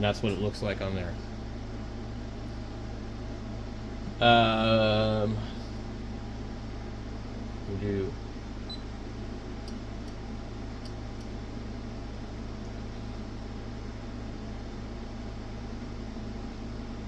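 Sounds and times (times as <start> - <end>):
electronics fan hum and hiss: 0.0 - 17.0.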